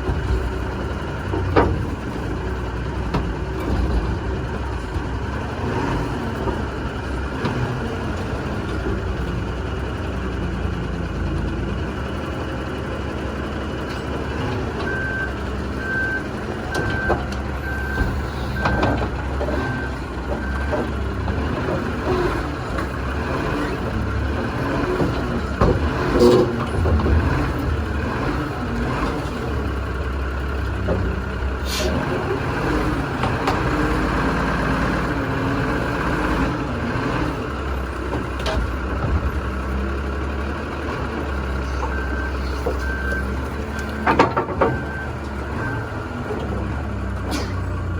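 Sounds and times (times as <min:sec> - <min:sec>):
heavy truck engine running: 0:00.0 - 0:47.9.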